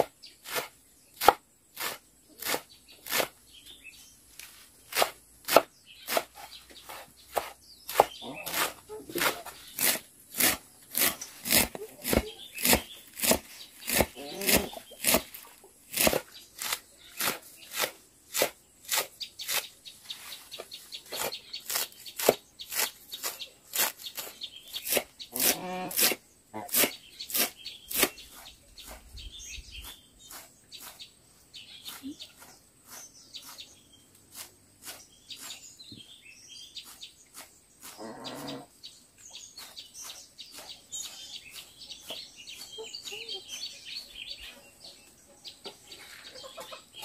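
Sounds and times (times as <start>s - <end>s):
cleaver chopping greens: 0.0s - 3.4s, 4.3s - 29.2s, 29.8s - 31.1s, 31.8s - 35.7s, 36.8s - 38.0s, 39.5s - 43.1s.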